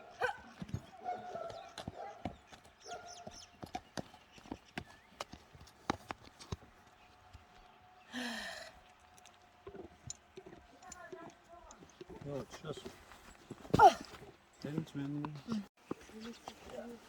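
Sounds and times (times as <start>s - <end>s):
horse hooves clopping on hard ground: 0.0s - 8.0s, 8.8s - 17.0s.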